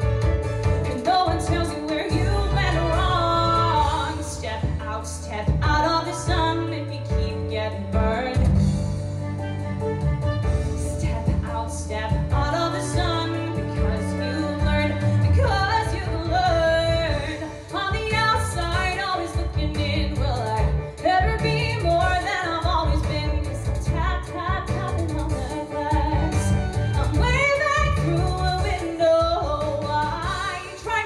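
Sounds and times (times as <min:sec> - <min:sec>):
instrumental accompaniment: 0:00.0 - 0:31.0
woman singing into microphone: 0:00.9 - 0:08.8, 0:10.8 - 0:31.0.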